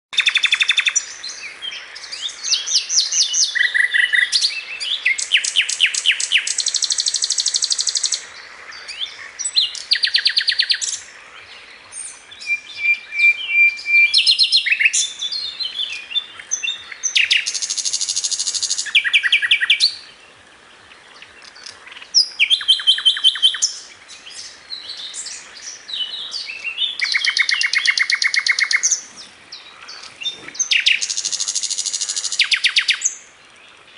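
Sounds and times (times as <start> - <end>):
birds singing and chirping: 0.2 - 33.9.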